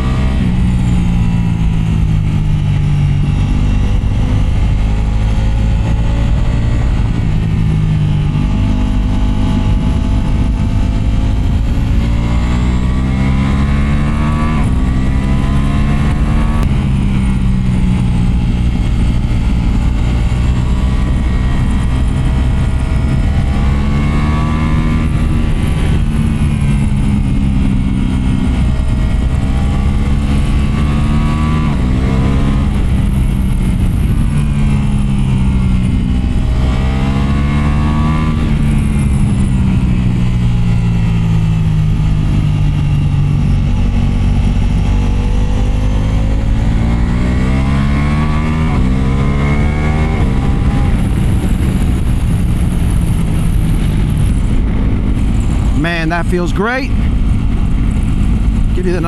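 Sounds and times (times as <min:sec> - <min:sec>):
motorcycle engine and exhaust: 0:00.0 - 0:59.0
wind and road noise: 0:00.0 - 0:59.0.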